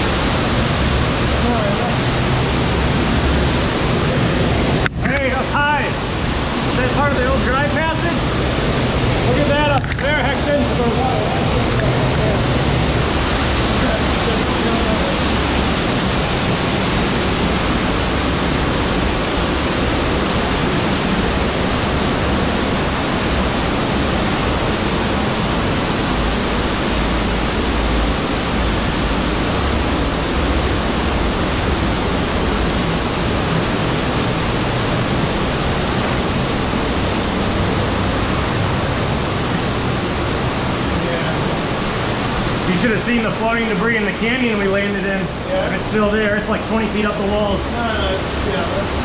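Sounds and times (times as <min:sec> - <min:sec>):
cave stream water rushing: 0:00.0 - 0:49.0.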